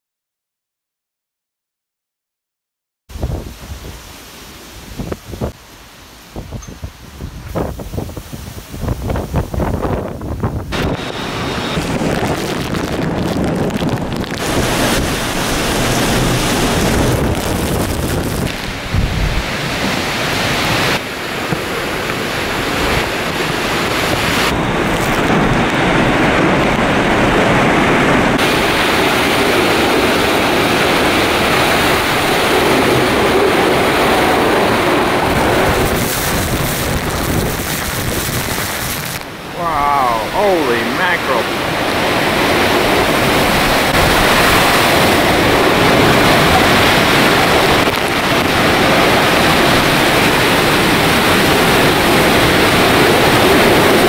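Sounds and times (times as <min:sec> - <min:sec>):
strong wind gusts on microphone: 0:03.1 - 0:04.2, 0:04.8 - 0:05.6, 0:06.3 - 0:54.0
wind-driven rain hissing: 0:03.1 - 0:54.0.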